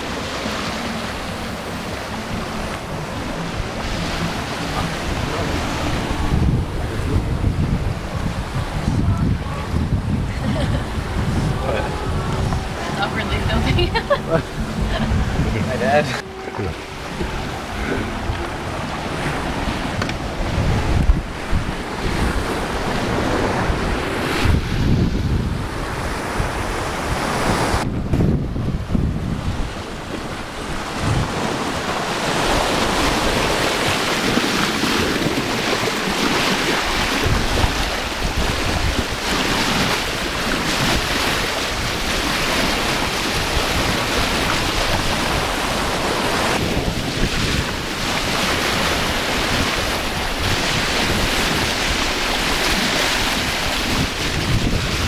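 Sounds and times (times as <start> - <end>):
water splashing along boat hull: 0.0 - 55.0
wind buffeting the microphone: 0.0 - 55.0.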